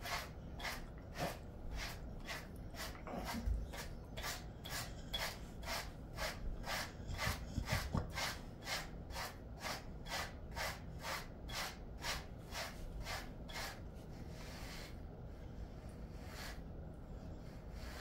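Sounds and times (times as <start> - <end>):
brush raking through dog fur: 0.0 - 15.0.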